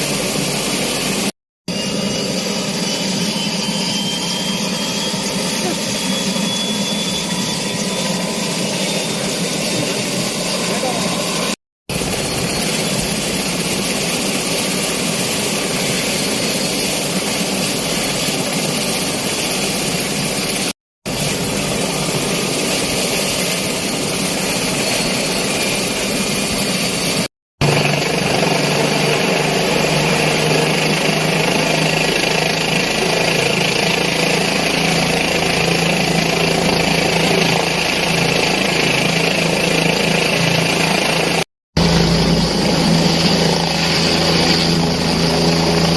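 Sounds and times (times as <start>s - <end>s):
helicopter turbine and rotor: 0.0s - 45.9s.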